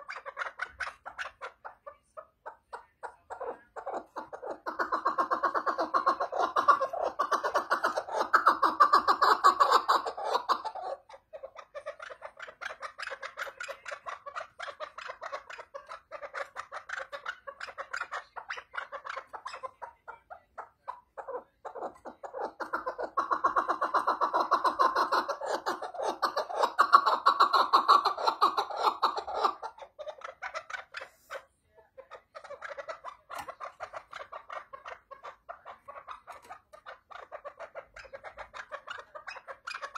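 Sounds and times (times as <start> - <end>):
partridge chuckling calls: 0.0 - 39.9
soft bird chattering: 0.0 - 39.9.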